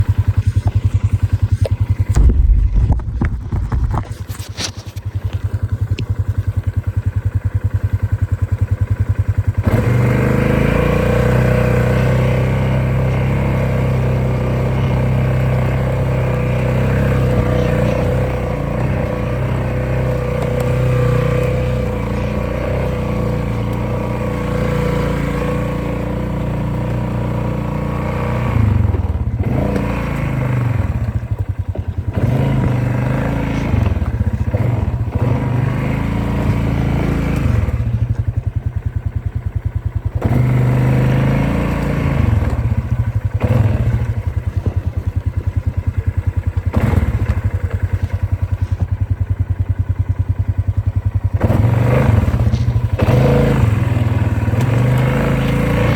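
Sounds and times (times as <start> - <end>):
off-road vehicle engine revving: 0.0 - 55.9.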